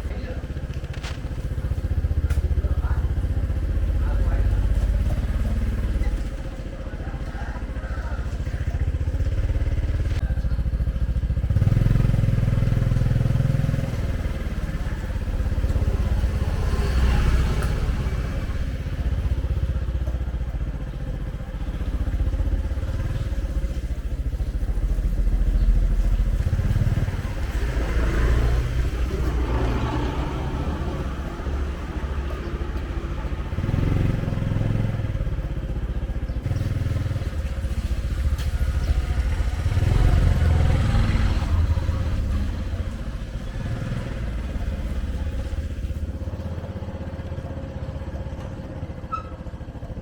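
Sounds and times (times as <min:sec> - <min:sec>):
motorcycle engine rumbling: 0:00.0 - 0:50.0.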